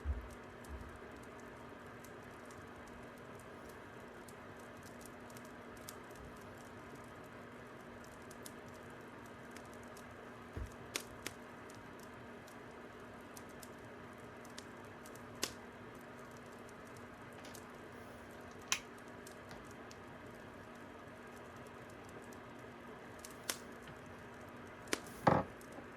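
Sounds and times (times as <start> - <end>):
fire crackling: 0.0 - 25.9.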